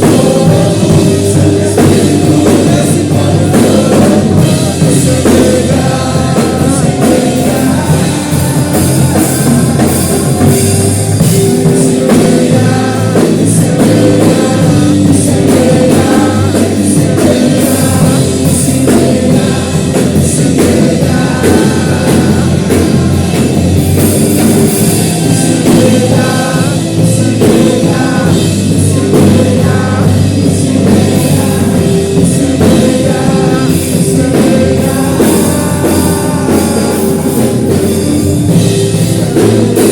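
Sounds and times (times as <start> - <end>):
drum kit beat: 0.0 - 39.9
singing: 0.0 - 39.9
worship band playing: 0.0 - 39.9.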